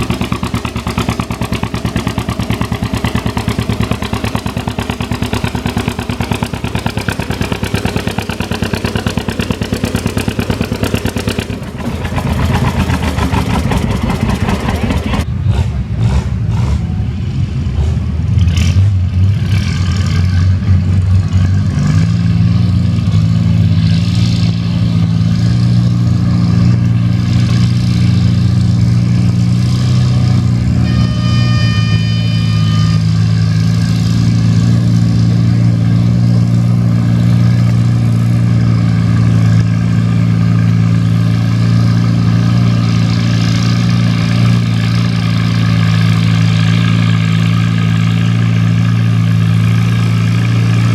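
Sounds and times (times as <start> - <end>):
tractor engine running under load: 0.0 - 50.9.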